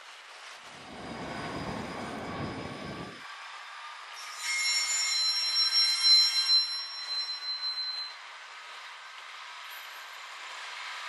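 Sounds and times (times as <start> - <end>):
train wheels squealing: 0.8 - 11.0.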